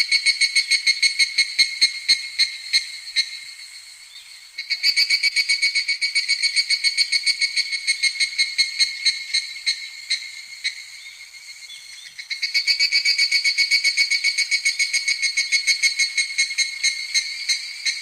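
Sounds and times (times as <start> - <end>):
cicadas pulsing trill: 0.0 - 18.0.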